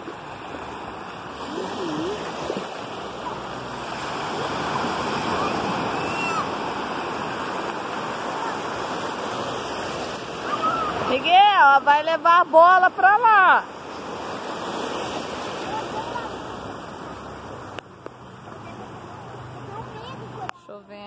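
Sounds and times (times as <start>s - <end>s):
sea waves breaking on beach: 0.0s - 20.5s.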